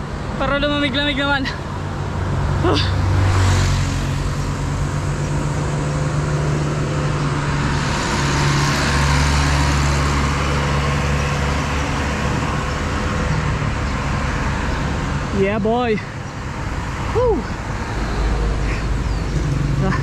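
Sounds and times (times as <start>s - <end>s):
road noise: 0.0s - 20.0s
vehicle engine droning: 0.0s - 20.0s.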